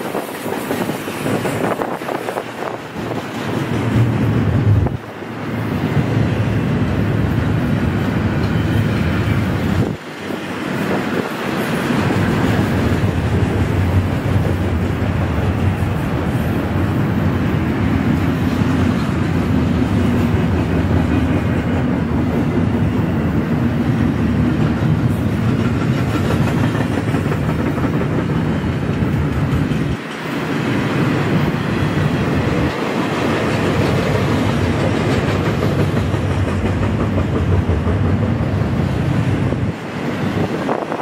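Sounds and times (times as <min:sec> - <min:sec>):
freight train rolling past: 0:00.0 - 0:41.0.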